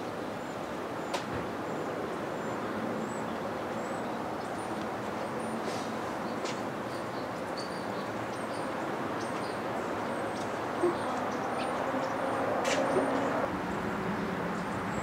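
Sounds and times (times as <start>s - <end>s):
outdoor background noise: 0.0s - 15.0s
small birds chirping: 0.3s - 13.5s.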